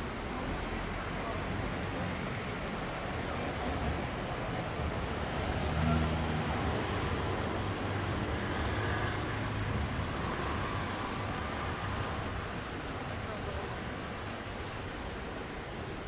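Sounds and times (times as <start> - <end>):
passing vehicles rumbling: 0.7 - 15.8.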